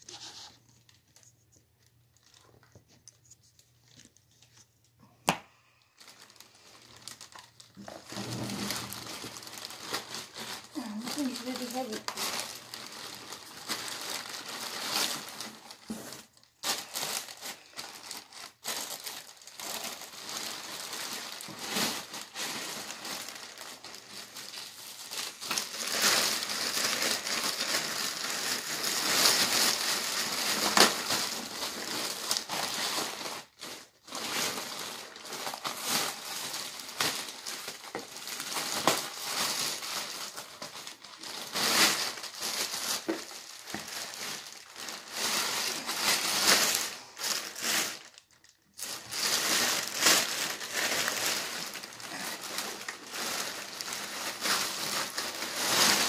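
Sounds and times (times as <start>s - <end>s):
packing material crinkling: 0.0s - 56.0s.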